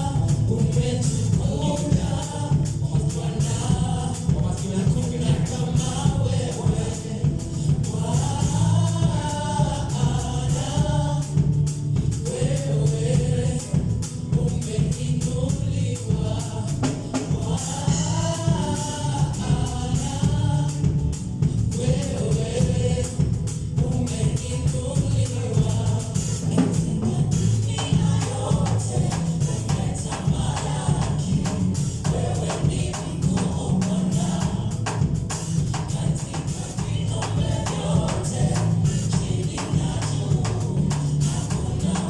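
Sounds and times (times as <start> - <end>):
gospel choir singing: 0.0 - 42.0
live band with heavy bass: 0.0 - 42.0.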